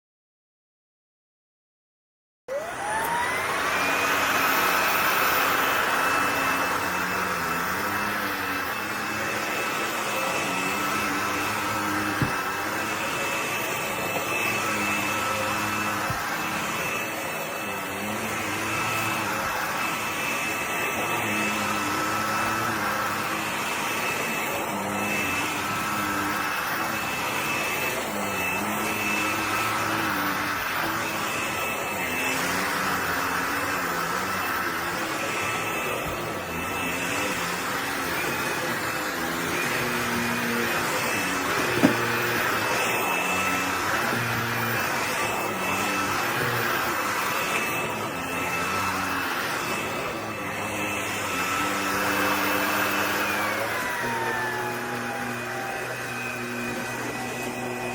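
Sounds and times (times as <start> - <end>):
stick vacuum motor whining: 2.5 - 57.9.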